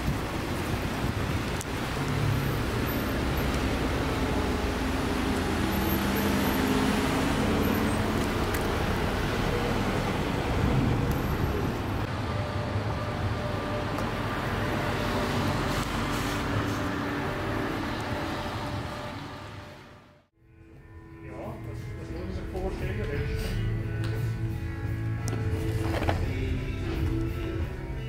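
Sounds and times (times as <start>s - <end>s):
city traffic passing: 0.0s - 20.3s, 21.6s - 28.0s.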